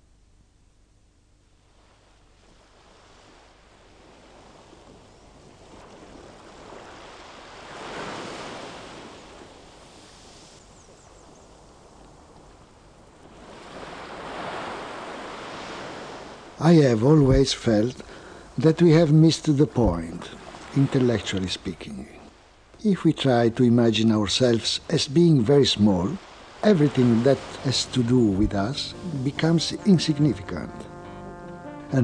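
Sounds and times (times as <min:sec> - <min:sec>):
sea surf washing on beach: 0:01.6 - 0:31.1.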